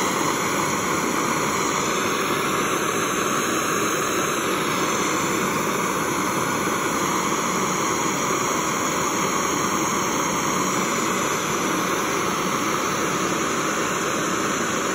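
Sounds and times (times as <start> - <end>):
blowtorch hissing: 0.0 - 14.9.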